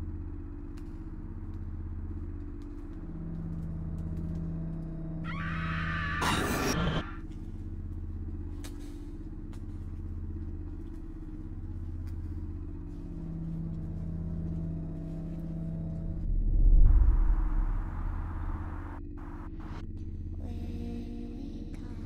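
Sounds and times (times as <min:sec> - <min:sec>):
deep rumble: 0:00.0 - 0:22.0
low ominous drone: 0:00.0 - 0:22.0.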